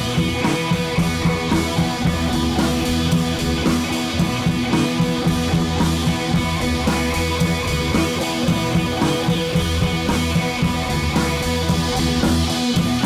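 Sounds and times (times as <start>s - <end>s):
guitar: 0.0s - 13.0s
steady drum beat: 0.0s - 13.0s
upbeat rock music: 0.0s - 13.0s.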